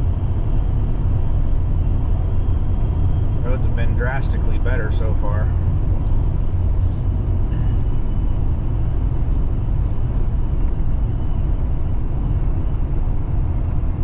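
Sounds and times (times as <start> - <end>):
truck cab road and engine rumble: 0.0 - 14.0.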